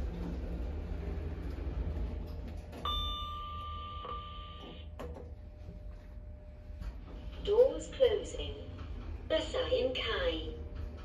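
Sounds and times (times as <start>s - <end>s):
lift car low hum: 0.0s - 11.0s.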